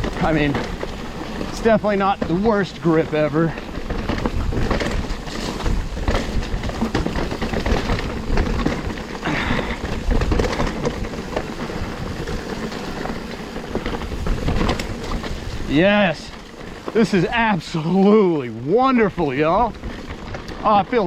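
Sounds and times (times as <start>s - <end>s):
bike rattling over bumps: 0.0s - 21.0s
bike tyres crunching over rocks: 0.0s - 21.0s.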